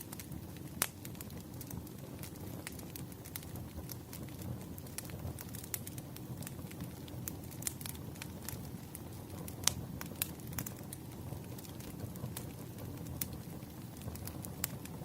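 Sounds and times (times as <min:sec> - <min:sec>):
campfire crackles and pops: 0:00.0 - 0:15.0
campfire rumble: 0:00.0 - 0:15.0.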